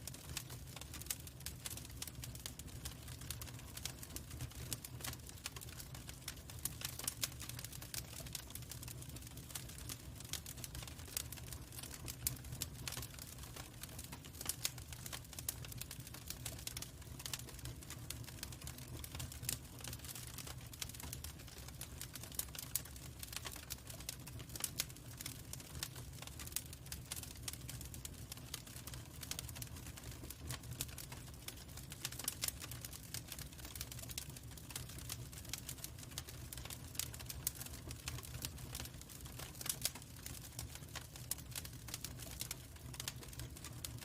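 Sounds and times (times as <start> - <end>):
log fire crackling and popping: 0.0 - 44.0.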